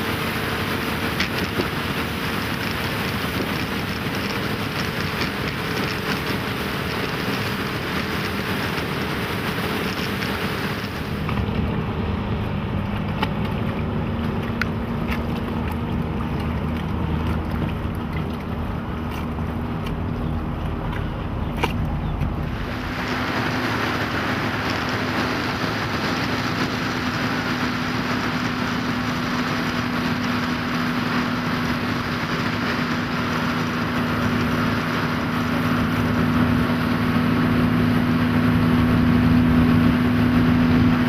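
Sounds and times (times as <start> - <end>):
outboard engine humming: 0.0 - 41.0
water along hull: 0.0 - 41.0
wind on microphone: 0.0 - 41.0.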